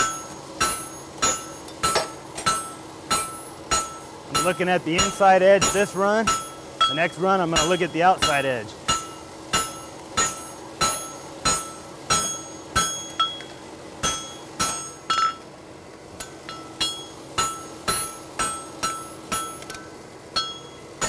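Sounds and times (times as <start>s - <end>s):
hammer striking horseshoe on anvil: 0.0s - 15.4s, 16.2s - 20.8s.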